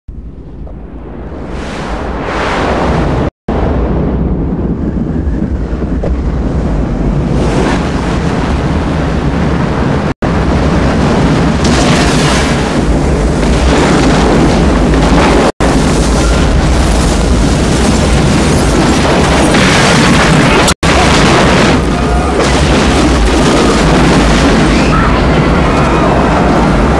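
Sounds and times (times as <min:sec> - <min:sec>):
rumbling blast and rushing roar: 0:00.1 - 0:26.9.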